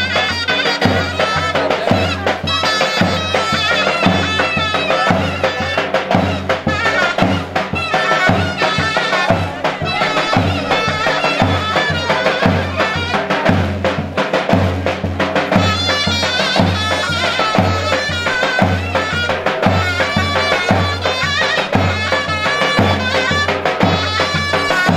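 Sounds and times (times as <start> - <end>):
reedy wind instrument melody: 0.0 - 24.9
steady drum beat: 0.0 - 24.9.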